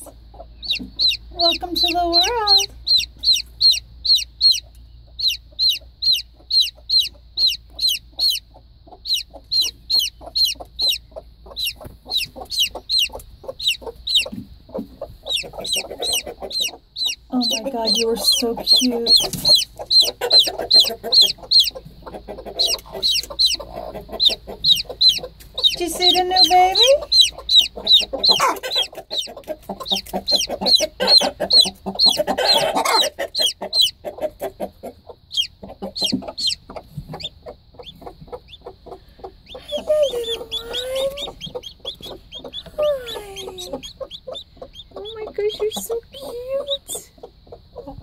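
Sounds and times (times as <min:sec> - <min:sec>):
chick peeping: 0:00.0 - 0:48.0.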